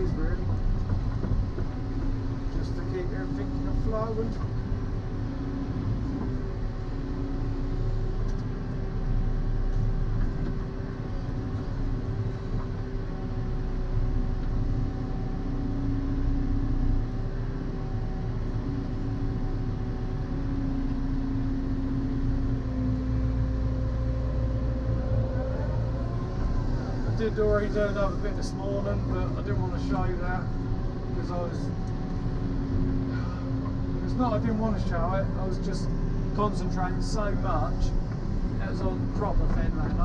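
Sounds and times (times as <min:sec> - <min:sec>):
excavator diesel drone: 0:00.0 - 0:40.0
hydraulic hum: 0:00.0 - 0:40.0.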